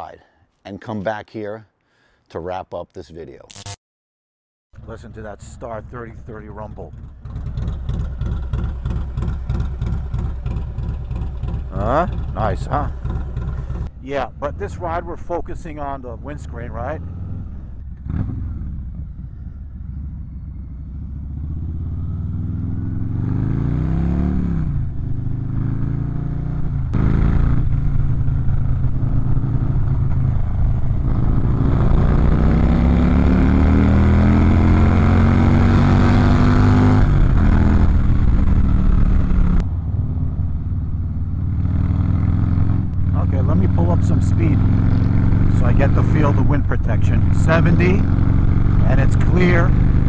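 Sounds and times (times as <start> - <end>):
motorcycle engine accelerating: 4.8 - 50.0.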